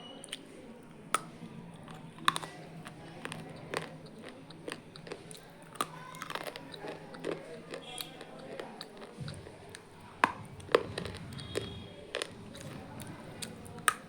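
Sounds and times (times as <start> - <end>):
chewing crunchy noodles: 0.3 - 14.0.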